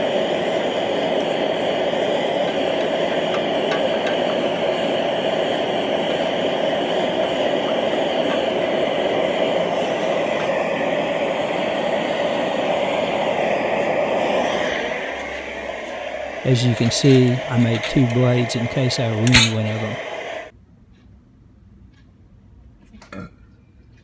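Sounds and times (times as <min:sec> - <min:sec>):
forge burner rushing: 0:00.0 - 0:20.5.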